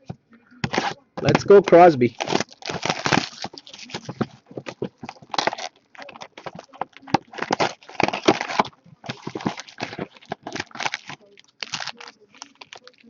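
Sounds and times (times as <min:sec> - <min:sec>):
packaging crinkling: 0:00.6 - 0:13.0.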